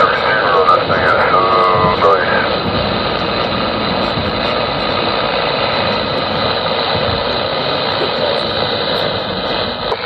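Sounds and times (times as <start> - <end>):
radio hum: 0.0 - 10.0
radio static hiss: 0.0 - 10.0.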